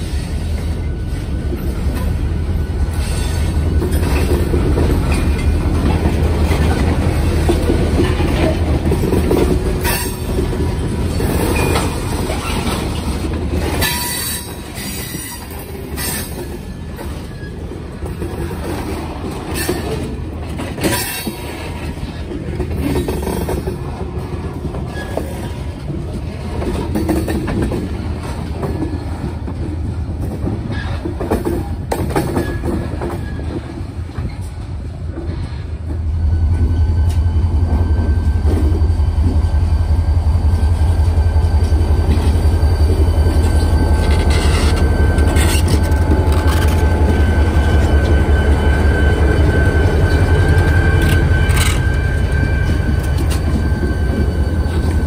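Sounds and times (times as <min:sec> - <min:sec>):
freight train rolling on track: 0:00.0 - 0:55.0.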